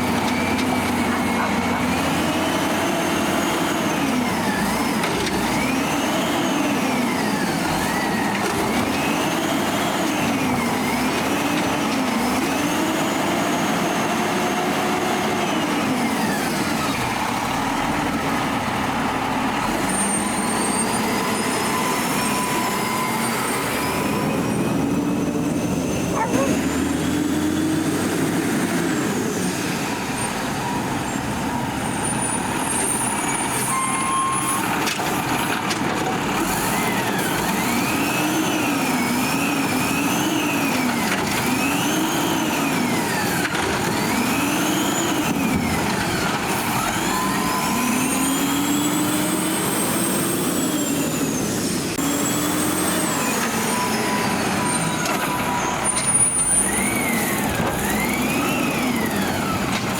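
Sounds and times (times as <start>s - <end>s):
garbage truck diesel engine revving: 0.0s - 59.9s.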